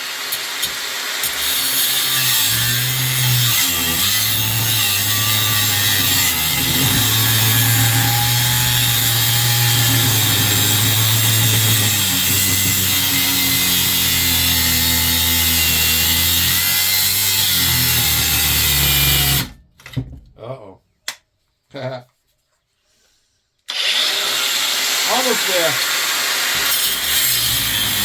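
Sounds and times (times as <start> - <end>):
power tool cutting metal: 0.0 - 19.6, 23.7 - 28.0.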